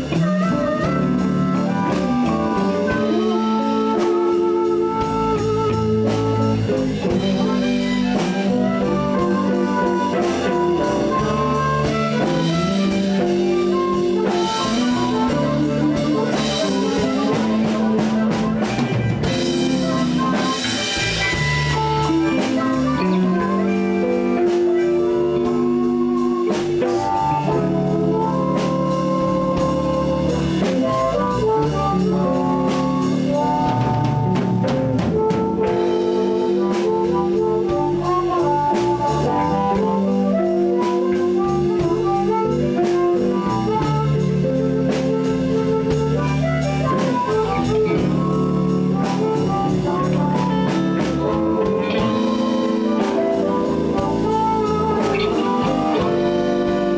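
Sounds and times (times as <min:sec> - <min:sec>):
bass groove: 0:00.0 - 0:56.9
drums: 0:00.0 - 0:56.9
guitar: 0:00.0 - 0:56.9
wailing harmonica lead: 0:00.0 - 0:56.9.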